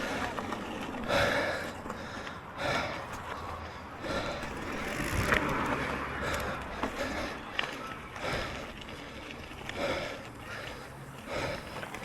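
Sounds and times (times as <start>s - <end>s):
bike rolling on dirt trail: 0.0s - 12.0s
rider breathing hard: 0.0s - 12.0s.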